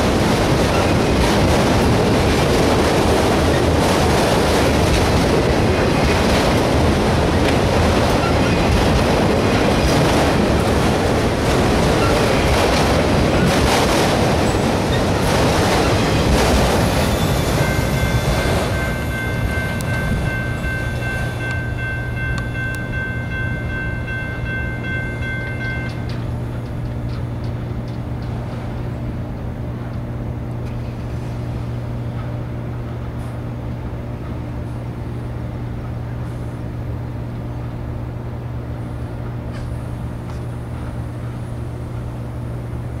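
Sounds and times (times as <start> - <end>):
freight train rumble: 0.0 - 43.0.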